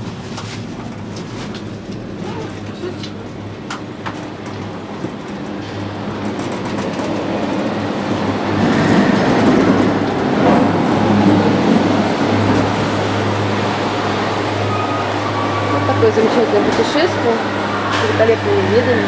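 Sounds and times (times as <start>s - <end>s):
gondola wheels rolling on rail: 0.0s - 19.0s.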